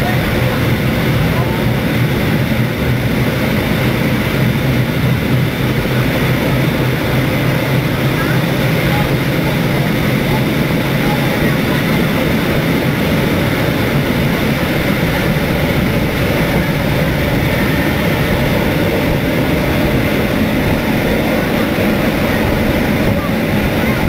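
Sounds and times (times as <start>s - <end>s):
moving train rushing: 0.0s - 24.0s.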